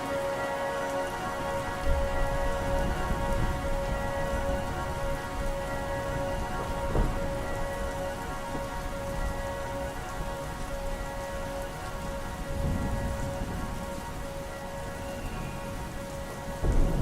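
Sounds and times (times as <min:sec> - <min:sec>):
steady rain: 0:00.0 - 0:17.0
low rumble of thunder: 0:01.1 - 0:17.0.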